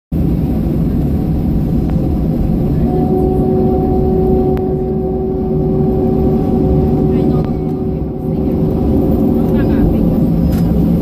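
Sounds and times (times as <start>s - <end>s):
jet engine rumble: 0.1s - 11.0s
two-tone engine whine: 0.2s - 11.0s.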